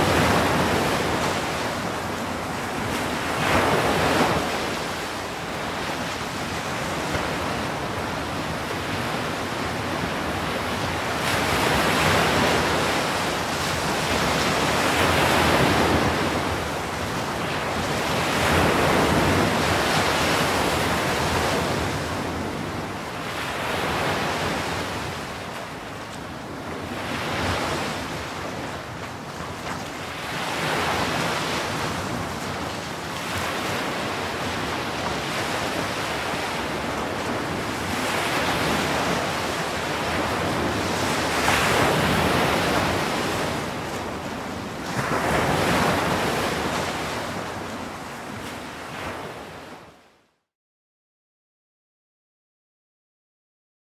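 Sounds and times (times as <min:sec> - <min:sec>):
waves breaking on shore: 0:00.0 - 0:50.1.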